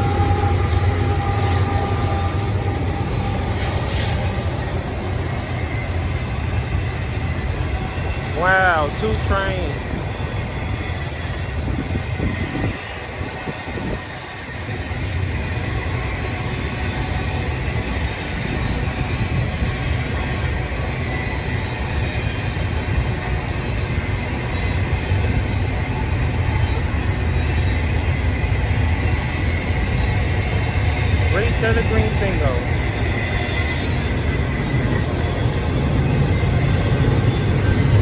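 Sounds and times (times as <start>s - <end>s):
freight train rumbling on track: 0.0s - 38.0s.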